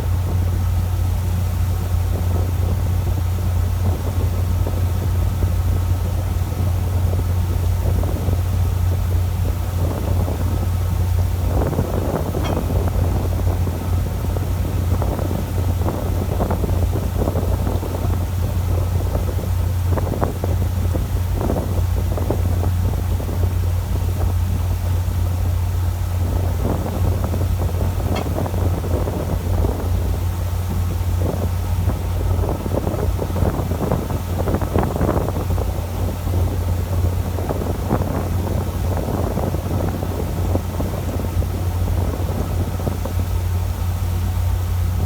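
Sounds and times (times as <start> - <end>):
boat engine humming: 0.0 - 45.0
wind on microphone: 0.0 - 45.0.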